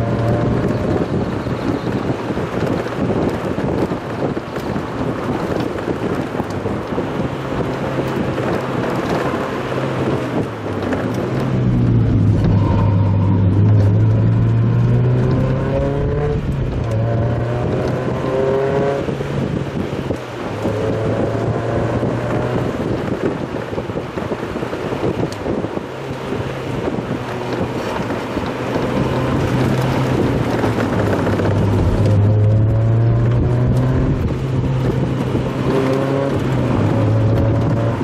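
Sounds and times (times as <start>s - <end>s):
car engine revving: 0.0s - 38.0s
wind noise: 0.0s - 38.0s.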